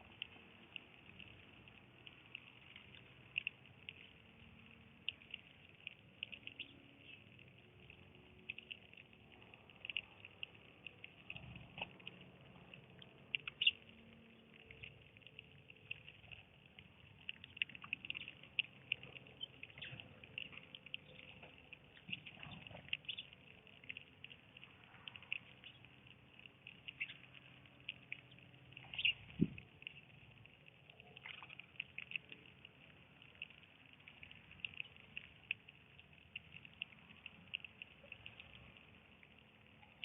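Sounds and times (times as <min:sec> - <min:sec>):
small birds chirping: 0:00.2 - 0:09.1, 0:09.7 - 0:35.6.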